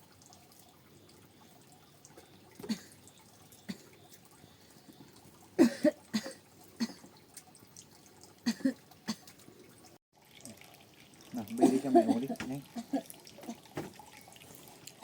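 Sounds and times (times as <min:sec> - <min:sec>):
water dripping and splashing: 0:00.0 - 0:15.0.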